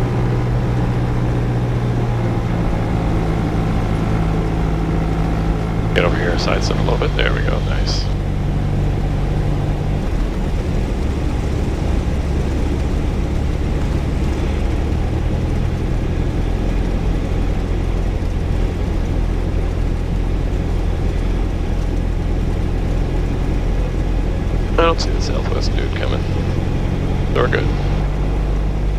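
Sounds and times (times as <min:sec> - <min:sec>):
airplane piston engine droning: 0:00.0 - 0:28.9.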